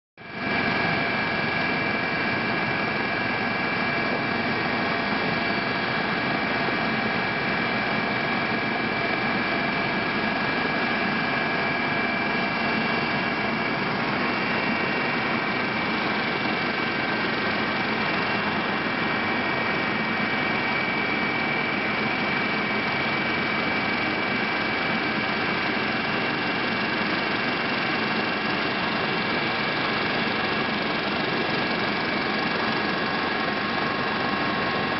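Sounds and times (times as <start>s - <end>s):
aircraft engine drone in cabin: 0.2s - 34.9s
high engine whine: 0.2s - 34.9s.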